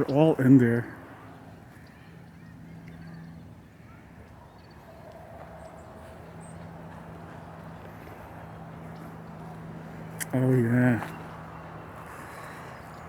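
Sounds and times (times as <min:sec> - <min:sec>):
songbirds chirping: 0:00.0 - 0:13.0
steady low hum: 0:00.0 - 0:13.0.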